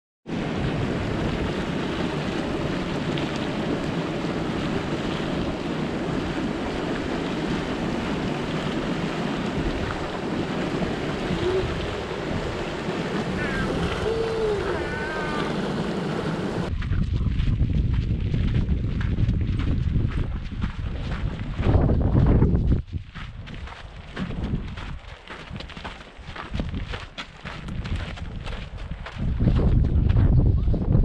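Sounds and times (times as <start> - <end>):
wind buffeting microphone: 0.3 - 31.0.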